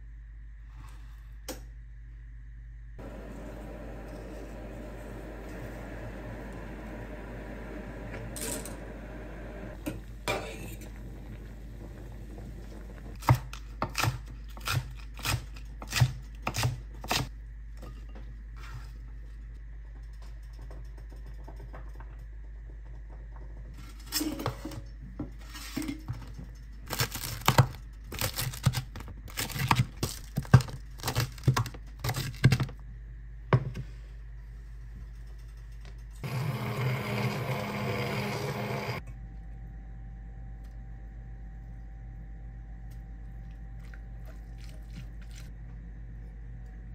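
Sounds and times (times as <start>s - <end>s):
steady low hum: 0.0s - 36.3s, 38.8s - 46.9s.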